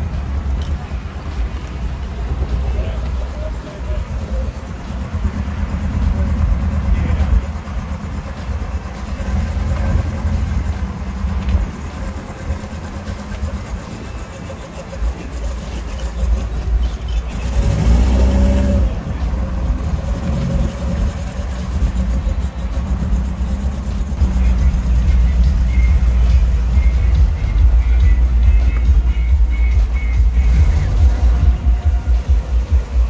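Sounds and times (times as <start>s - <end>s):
car engines rumbling at low speed: 0.0s - 33.0s
engine revving: 0.0s - 33.0s.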